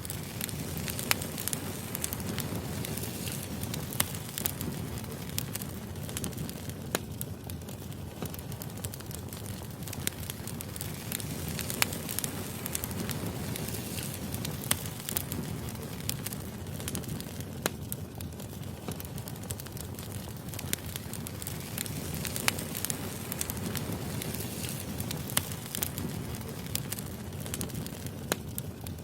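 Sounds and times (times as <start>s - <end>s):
firewood crackling and popping: 0.0s - 29.0s
flames rumbling: 0.0s - 29.0s.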